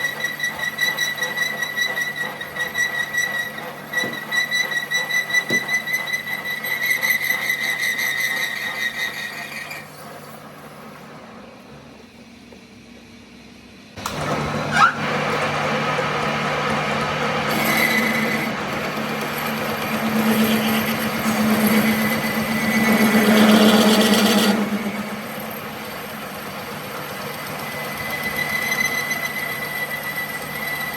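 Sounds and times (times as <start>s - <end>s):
machine droning and rattling: 0.0s - 13.1s, 13.9s - 30.9s.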